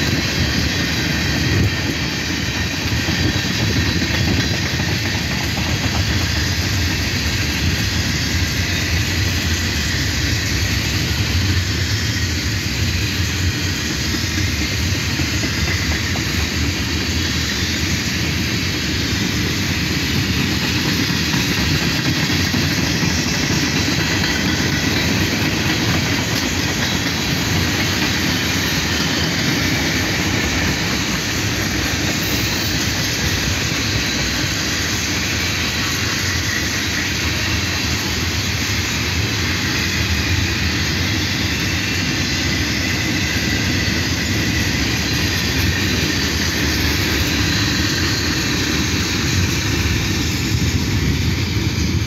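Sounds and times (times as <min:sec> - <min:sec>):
steel wheels running on rails: 0:00.0 - 0:52.0.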